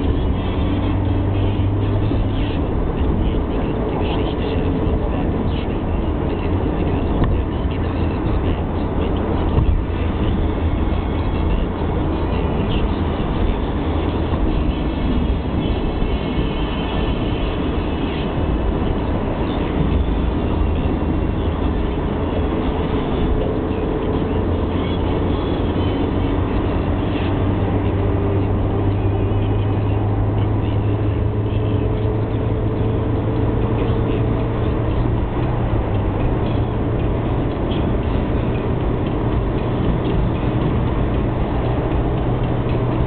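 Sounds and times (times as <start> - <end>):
engine hum: 0.0 - 43.0.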